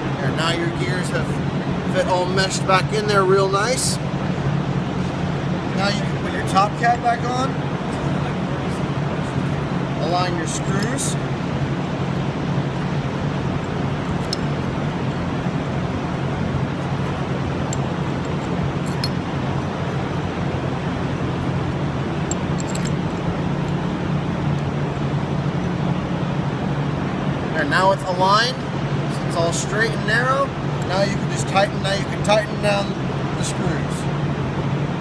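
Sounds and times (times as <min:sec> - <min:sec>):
workshop hum: 0:00.0 - 0:35.0.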